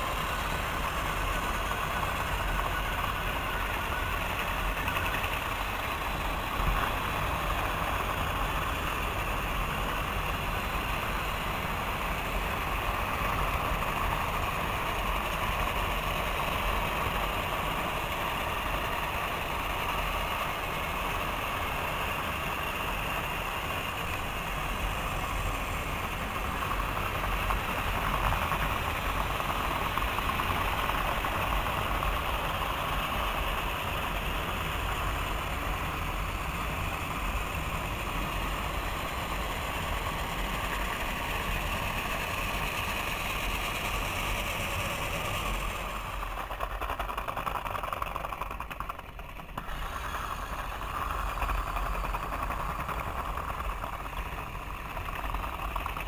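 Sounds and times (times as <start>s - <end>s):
toy train motors whirring: 0.0s - 56.0s.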